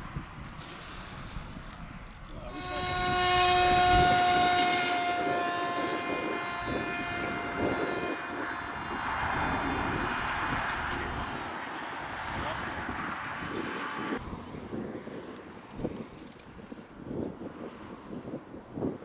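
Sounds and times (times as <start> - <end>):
model aeroplane engine flying past: 0.0 - 19.0.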